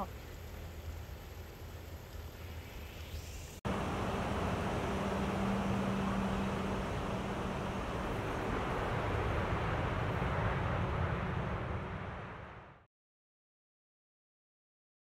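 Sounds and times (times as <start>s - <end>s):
outdoor background rush: 0.0s - 12.8s.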